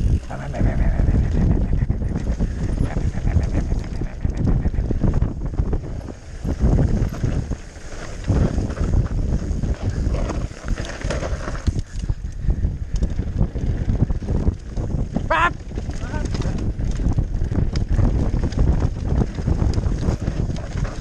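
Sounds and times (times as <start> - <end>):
bike tyre noise: 0.0 - 21.0
wind buffeting microphone: 0.0 - 21.0.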